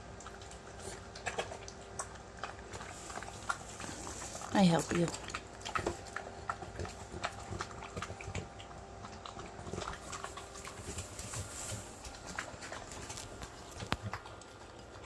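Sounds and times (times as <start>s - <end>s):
dogs chewing and smacking: 0.0s - 15.0s.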